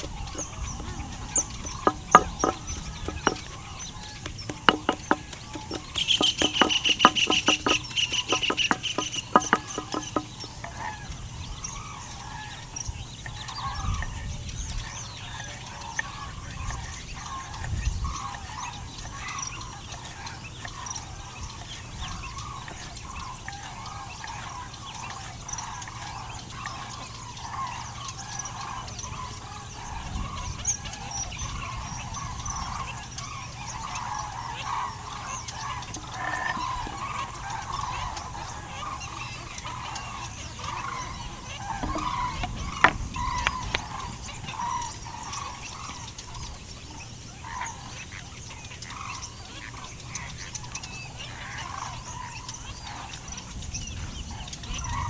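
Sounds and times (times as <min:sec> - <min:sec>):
chorus of animal calls: 0:00.0 - 0:55.0.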